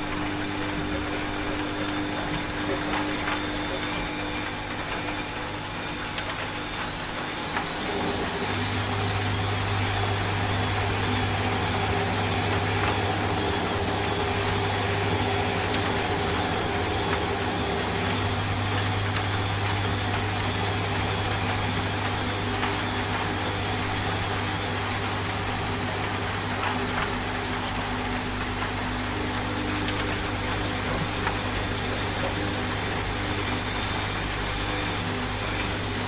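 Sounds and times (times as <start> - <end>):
washing machine motor hum: 0.0 - 36.0.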